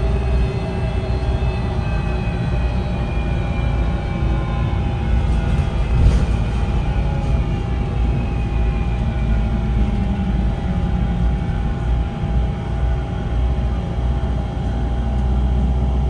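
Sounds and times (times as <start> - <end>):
bus engine low rumble: 0.0 - 16.0.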